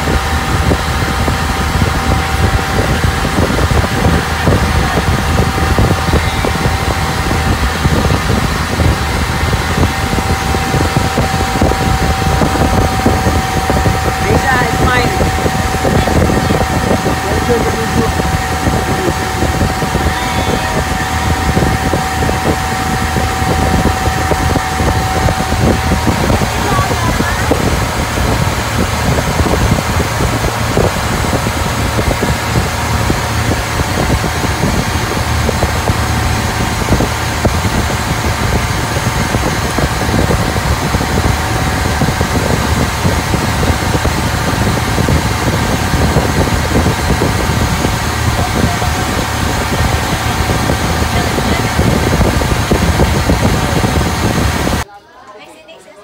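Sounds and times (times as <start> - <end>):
steady higher tone: 0.0 - 54.8
boat engine droning: 0.0 - 54.9.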